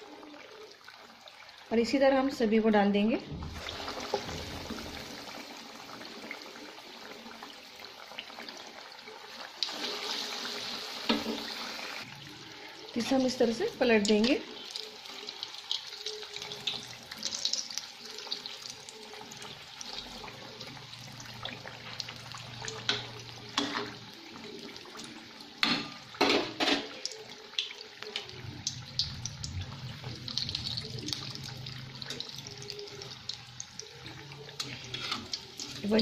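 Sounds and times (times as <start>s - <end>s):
oil sizzling and bubbling: 0.0s - 36.0s.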